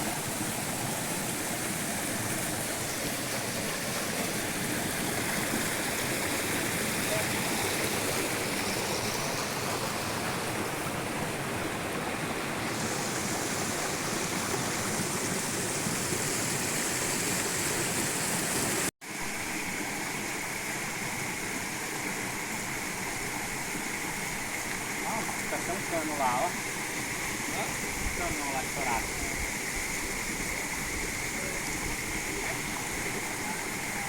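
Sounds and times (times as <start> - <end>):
waterfall rushing water: 0.0 - 34.0.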